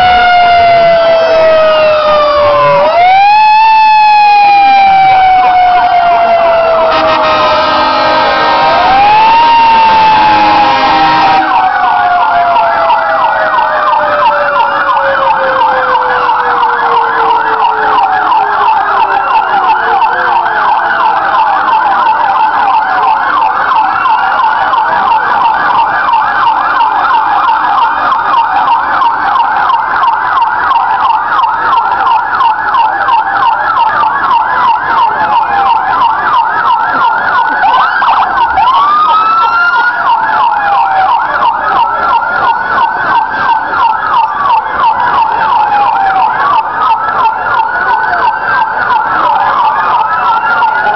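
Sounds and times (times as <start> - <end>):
electronic sirens yelping: 0.0 - 50.9
siren wailing: 0.0 - 50.9.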